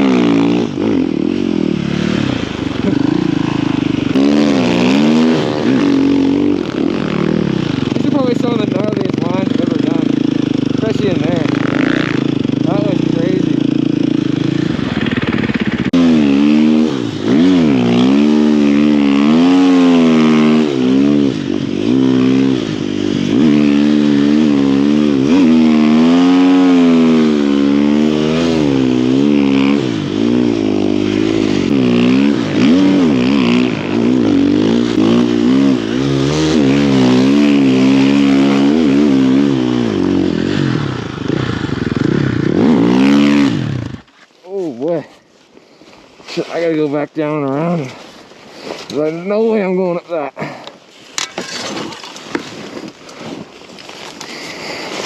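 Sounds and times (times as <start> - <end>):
motorbike engine revving: 0.0 - 45.2.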